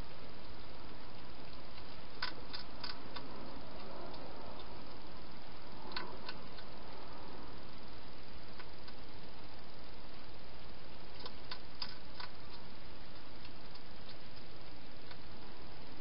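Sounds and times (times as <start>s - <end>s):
steady hiss: 0.0s - 16.0s
hedgehog crunching food: 0.9s - 9.4s, 10.9s - 15.4s.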